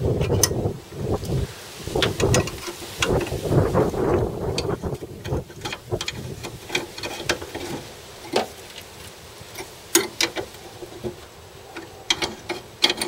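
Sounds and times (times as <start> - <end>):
hand tools tapping on metal: 0.2 - 0.7, 2.0 - 8.9, 9.5 - 13.0.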